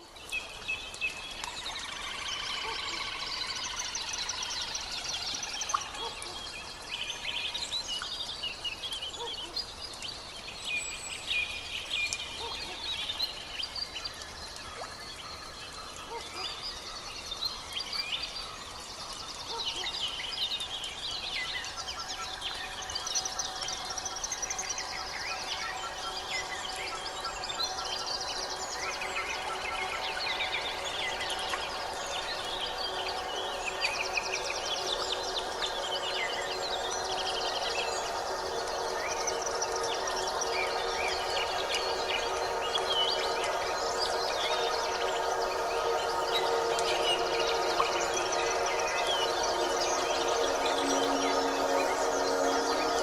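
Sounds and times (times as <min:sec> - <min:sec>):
wild birds chirping and trilling: 0:00.0 - 0:53.0.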